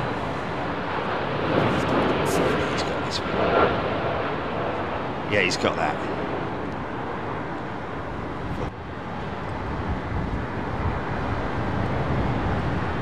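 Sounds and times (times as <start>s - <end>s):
jet engines of airliner: 0.0s - 13.0s
wind rumbling on microphone: 0.0s - 13.0s.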